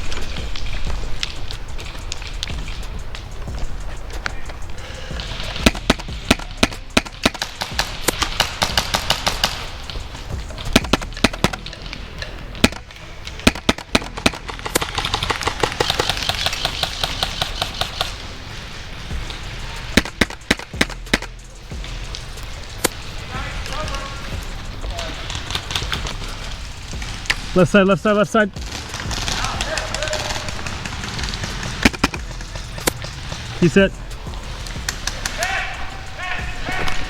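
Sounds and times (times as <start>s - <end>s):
airsoft guns firing: 4.3s - 18.4s, 19.6s - 27.6s, 28.6s - 37.0s.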